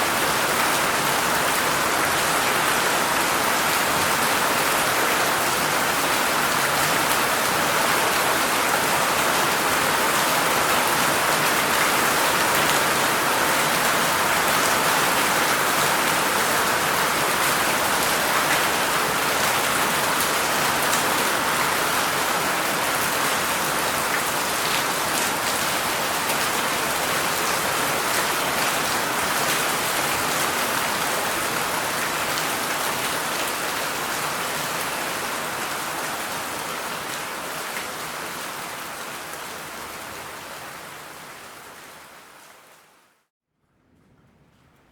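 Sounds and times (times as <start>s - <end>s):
heavy rain falling: 0.0s - 42.8s.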